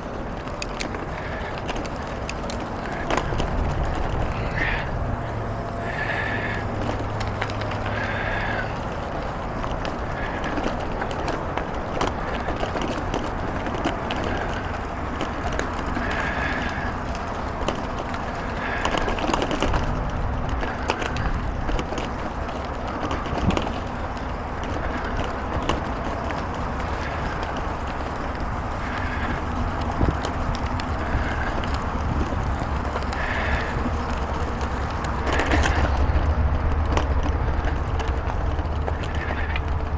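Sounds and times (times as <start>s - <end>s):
bicycle rattles and knocks: 0.0s - 39.9s
bicycle tyres rumbling on gravel: 0.0s - 39.9s.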